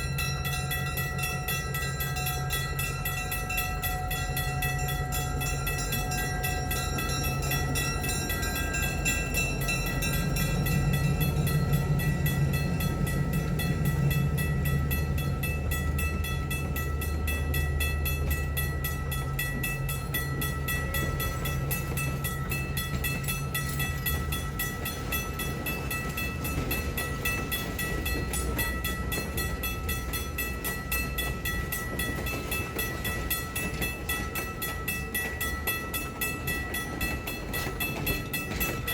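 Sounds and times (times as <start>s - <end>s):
train engine drone: 0.0s - 38.9s.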